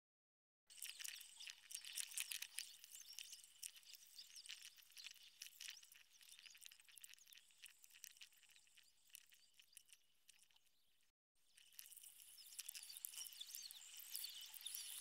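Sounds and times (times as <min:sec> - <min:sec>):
small high clicks and crackle: 0:00.7 - 0:15.0.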